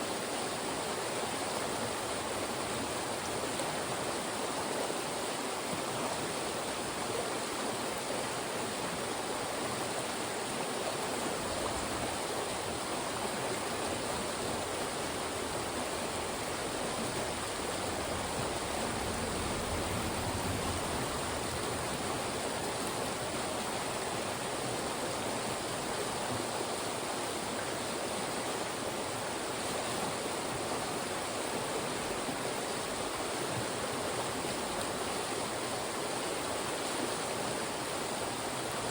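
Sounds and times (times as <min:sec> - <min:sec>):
stream rushing through rocks: 0:00.0 - 0:38.9.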